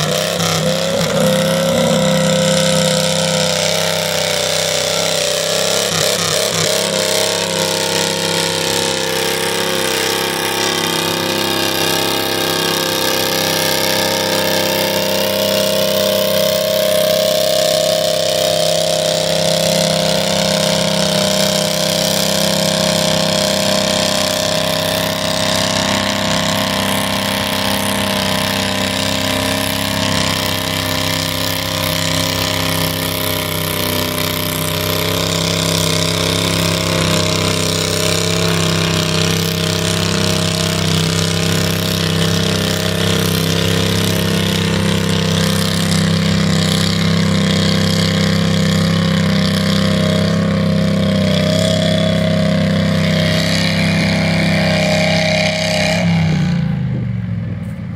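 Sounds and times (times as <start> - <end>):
tractor engine at high throttle: 0.0 - 57.9.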